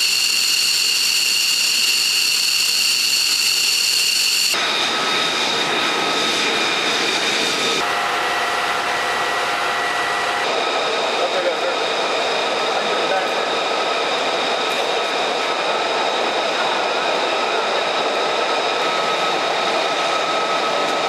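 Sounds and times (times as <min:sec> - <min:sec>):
jet engine whine: 0:00.0 - 0:21.0.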